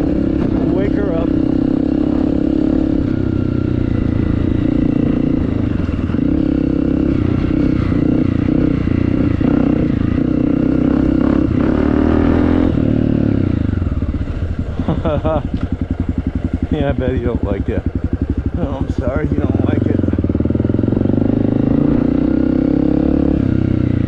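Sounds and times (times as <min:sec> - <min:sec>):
dirt bike engine under throttle: 0:00.0 - 0:24.0.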